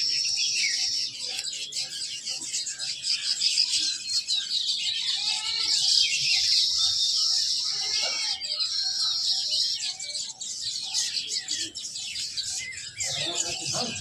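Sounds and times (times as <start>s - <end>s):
small birds chirping chorus: 0.0s - 14.0s.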